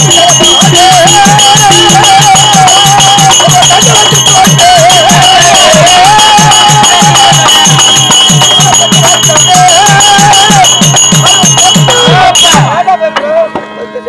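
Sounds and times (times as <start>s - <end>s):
barrel drum beaten quickly: 0.0s - 13.3s
jingling metal percussion: 0.0s - 14.0s
wavering high melody: 0.0s - 14.0s.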